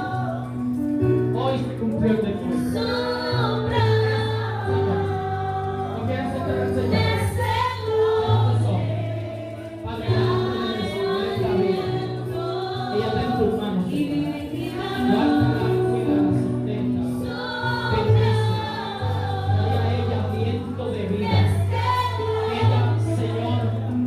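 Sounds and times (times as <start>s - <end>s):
choir singing gospel music: 0.0s - 24.0s
sustained bass accompaniment: 0.0s - 24.0s.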